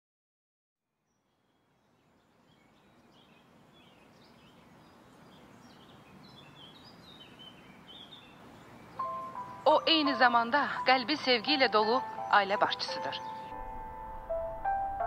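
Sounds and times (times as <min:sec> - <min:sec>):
small birds chirping: 0:01.0 - 0:13.8
background hiss: 0:01.1 - 0:15.0.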